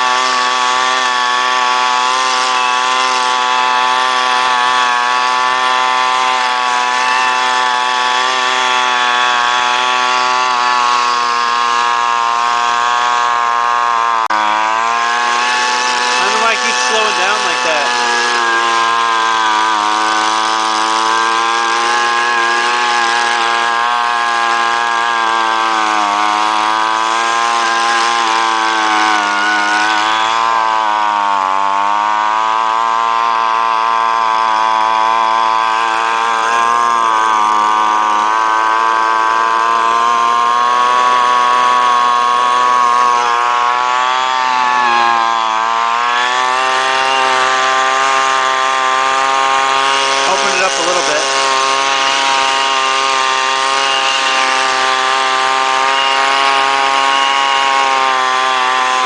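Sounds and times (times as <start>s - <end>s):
leaf blower engine running: 0.0s - 59.0s.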